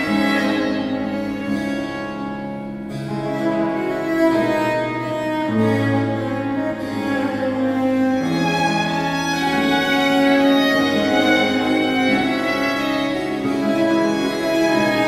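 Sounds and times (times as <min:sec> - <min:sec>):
low bowed bass line: 0:00.0 - 0:15.0
violin melody: 0:00.0 - 0:15.0.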